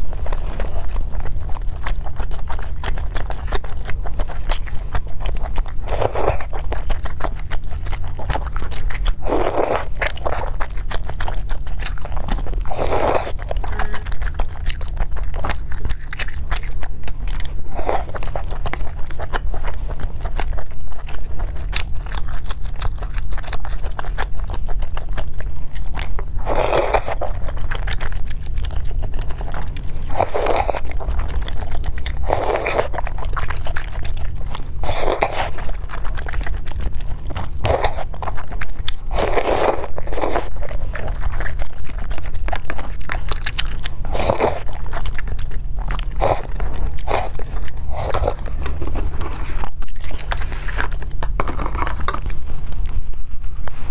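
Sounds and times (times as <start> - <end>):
chewing with wet mouth clicks: 0.0 - 53.9
steady low hum: 0.0 - 53.9.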